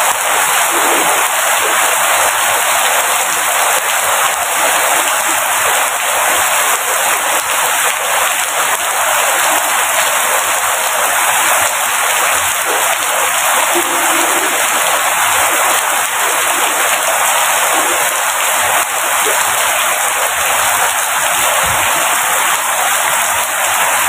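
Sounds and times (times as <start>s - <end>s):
rain falling steadily: 0.0s - 24.0s.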